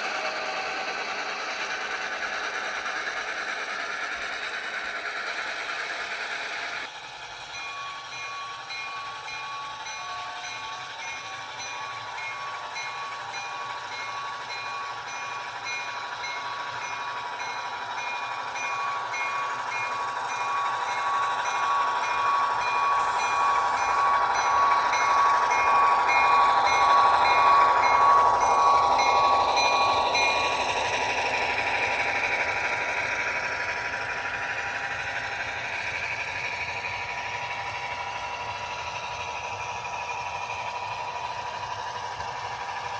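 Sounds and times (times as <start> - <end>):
locomotive bell ringing: 0.0 - 42.9.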